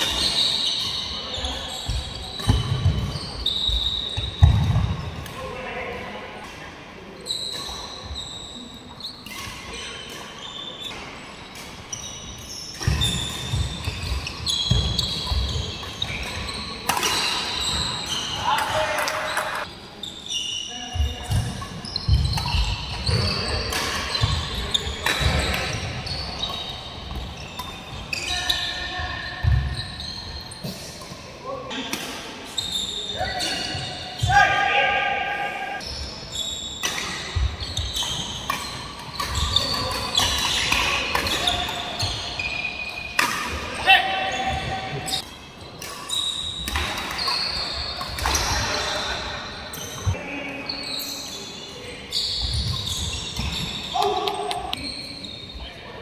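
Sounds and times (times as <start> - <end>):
shoes squeaking on floor: 0.0 - 5.2, 7.2 - 31.3, 32.5 - 34.5, 35.7 - 55.8.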